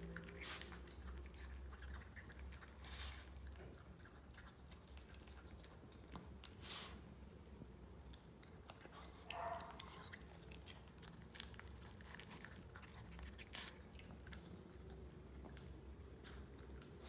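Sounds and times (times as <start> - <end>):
dog chewing food: 0.0 - 17.0.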